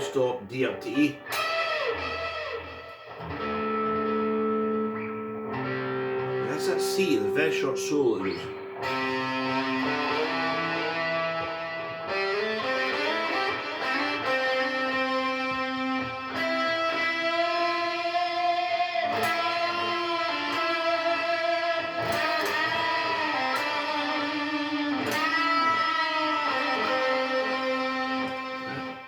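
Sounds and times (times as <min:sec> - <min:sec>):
electric guitar solo: 0:00.0 - 0:29.0.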